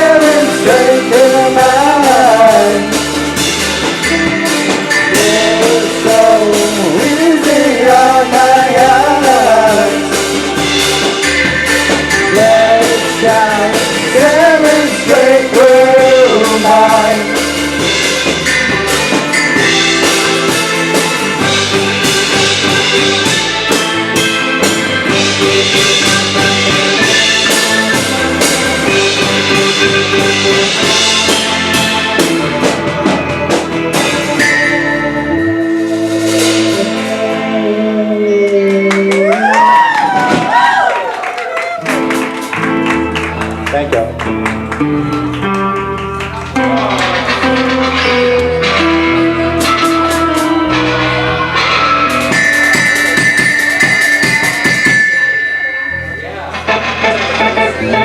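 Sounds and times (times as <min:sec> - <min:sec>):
bending melodic lead line: 0:00.0 - 0:40.6, 0:41.8 - 0:58.0
rock band playing live: 0:00.0 - 0:58.0.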